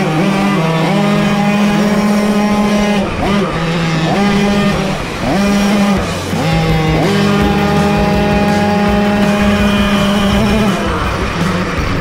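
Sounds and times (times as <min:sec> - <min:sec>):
moped engine revving: 0:00.0 - 0:12.0.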